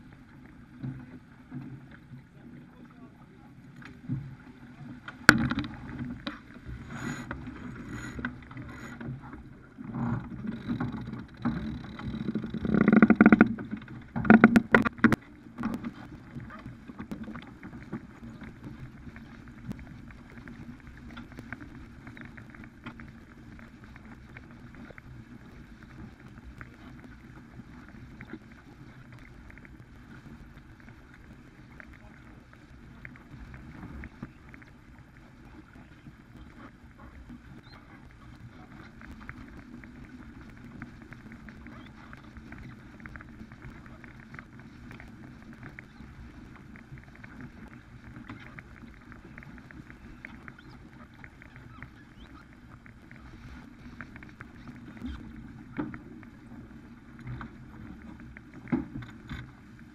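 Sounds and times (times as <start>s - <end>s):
water rushing along hull: 0.0s - 59.9s
wind: 0.0s - 59.9s.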